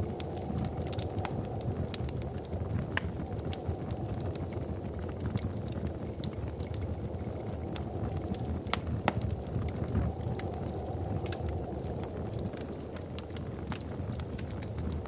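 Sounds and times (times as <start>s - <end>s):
low rush of flames: 0.0s - 15.0s
wood fire crackling: 0.0s - 15.0s.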